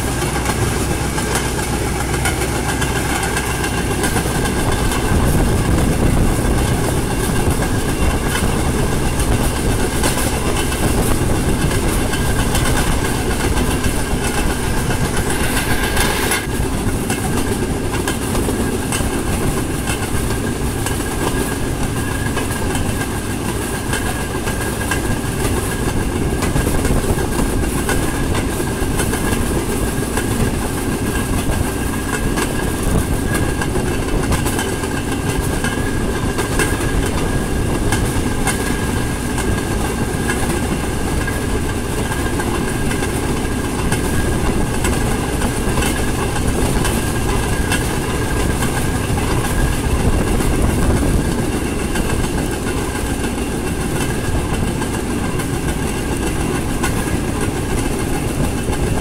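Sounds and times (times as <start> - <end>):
clicks at rail joints: 0.0 - 59.0
wheels rumbling on rails: 0.0 - 59.0.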